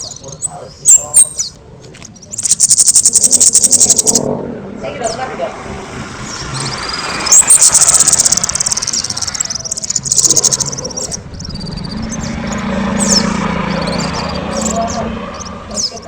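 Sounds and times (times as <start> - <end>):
songbird trilling: 0.0 - 4.3, 6.2 - 16.0.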